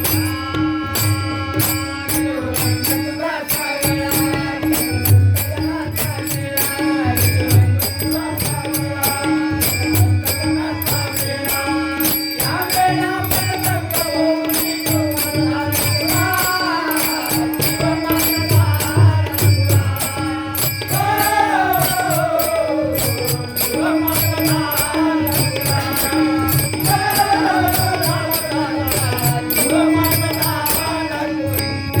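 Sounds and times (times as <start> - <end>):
jingling percussion: 0.0 - 32.0
man singing devotional song: 0.0 - 32.0.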